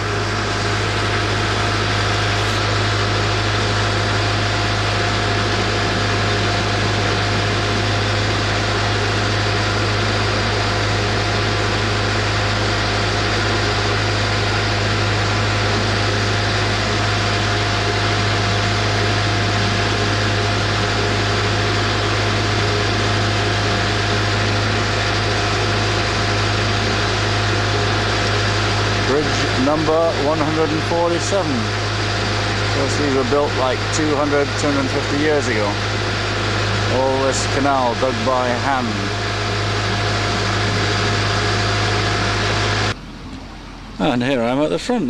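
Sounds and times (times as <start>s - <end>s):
boat engine droning: 0.0s - 45.0s
thin steady whine: 0.0s - 45.0s.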